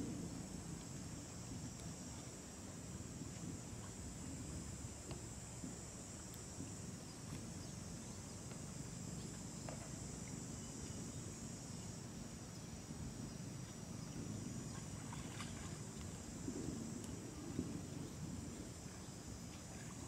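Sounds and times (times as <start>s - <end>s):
low steady rumble: 0.0s - 20.0s
steady high hiss: 0.0s - 20.0s.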